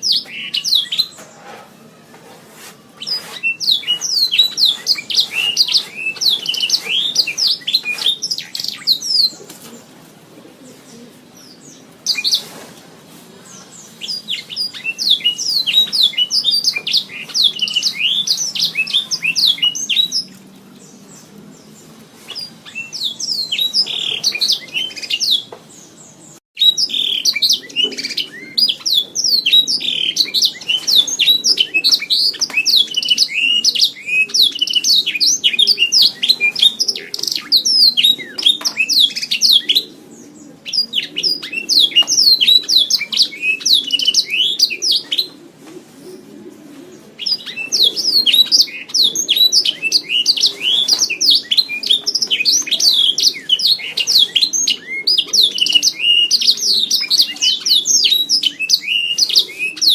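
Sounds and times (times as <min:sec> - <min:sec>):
canary singing trills: 0:00.0 - 0:02.0, 0:03.0 - 0:09.9, 0:13.4 - 0:45.4, 0:47.2 - 0:59.9.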